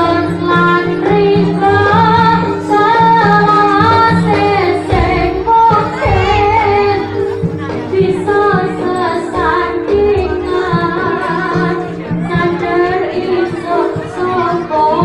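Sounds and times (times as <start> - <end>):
gamelan accompaniment: 0.0 - 15.0
woman singing: 0.0 - 15.0
heavy low drum beats: 0.5 - 13.5.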